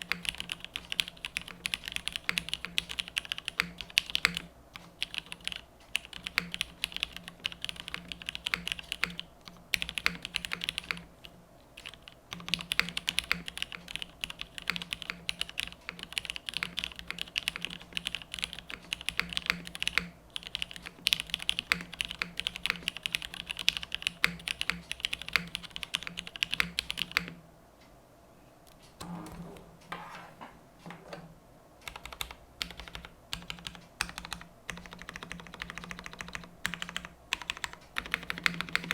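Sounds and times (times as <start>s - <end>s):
fast typing on mechanical keyboard: 0.0s - 11.1s, 11.8s - 27.3s, 31.8s - 38.9s.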